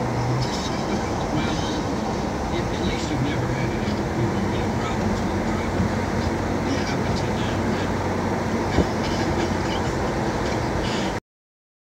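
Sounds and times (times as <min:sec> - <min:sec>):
car cabin road and engine noise: 0:00.0 - 0:11.2.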